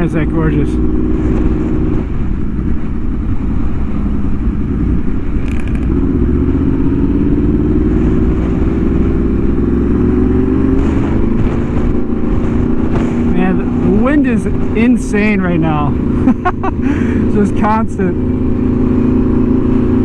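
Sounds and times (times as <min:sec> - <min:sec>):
motorcycle engine accelerating: 0:00.0 - 0:20.0
wind buffeting microphone: 0:00.0 - 0:20.0.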